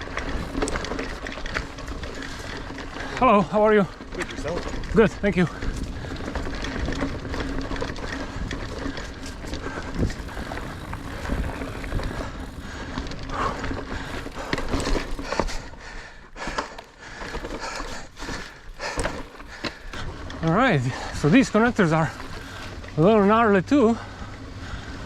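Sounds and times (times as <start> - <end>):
bike frame rattling and knocking: 0.0 - 23.4
bike tyres rolling on dirt: 0.0 - 25.0.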